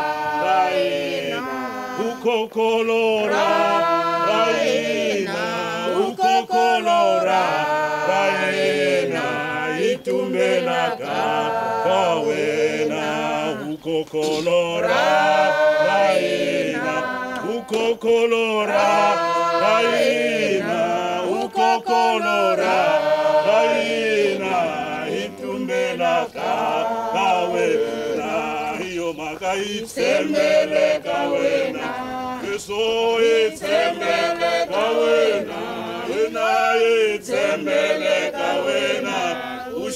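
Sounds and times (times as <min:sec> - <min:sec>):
group singing unaccompanied: 0:00.0 - 0:39.9.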